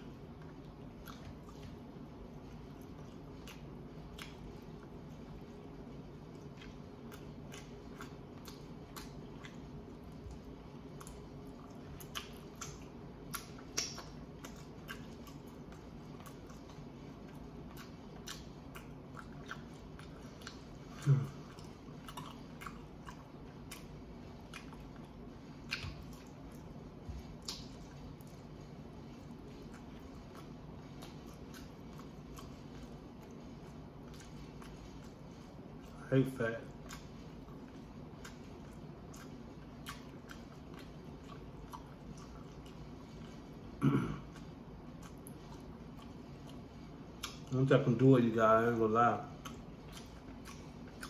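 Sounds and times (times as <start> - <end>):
person chewing food: 0.0 - 48.1, 49.0 - 51.0.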